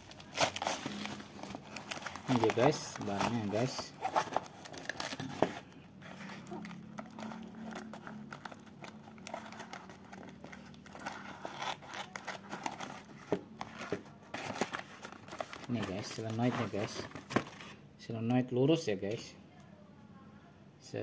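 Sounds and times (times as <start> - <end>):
paper packaging rustling: 0.0 - 17.8.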